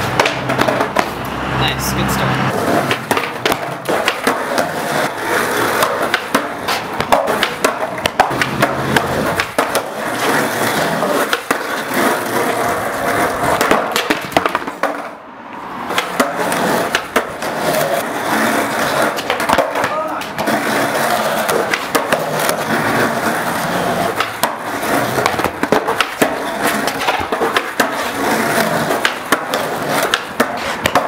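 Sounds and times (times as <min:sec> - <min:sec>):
skateboard tail clacks: 0:00.0 - 0:01.3, 0:02.5 - 0:31.0
skateboard wheels rumbling: 0:00.0 - 0:31.0.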